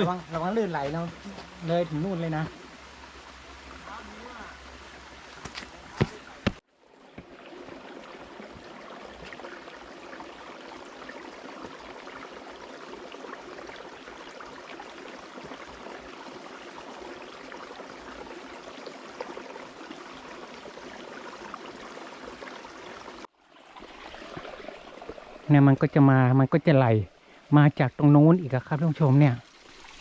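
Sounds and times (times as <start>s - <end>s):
stream trickling and splashing: 0.0s - 30.0s.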